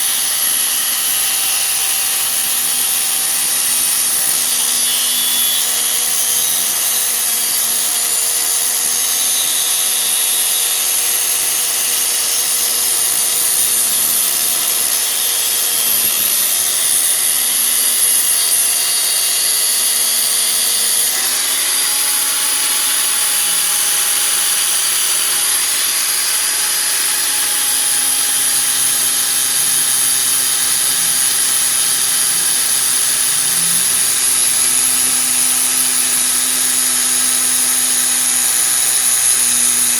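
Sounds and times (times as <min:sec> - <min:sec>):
angle grinder grinding brake disc: 0:00.0 - 0:39.9.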